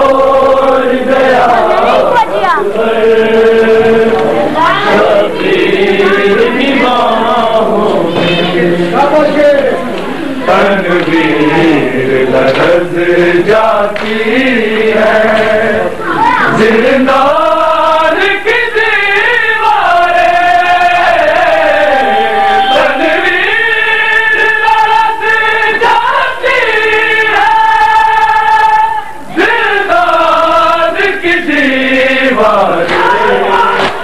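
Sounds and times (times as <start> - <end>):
voices chanting a lament: 0.0 - 34.0.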